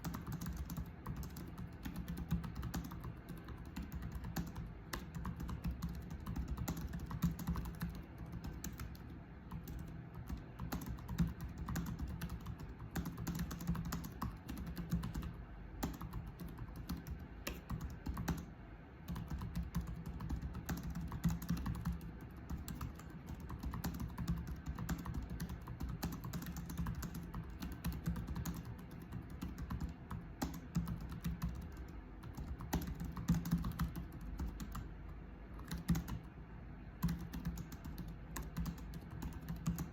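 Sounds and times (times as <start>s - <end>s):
typing on computer keyboard: 0.0s - 36.3s, 37.0s - 39.9s.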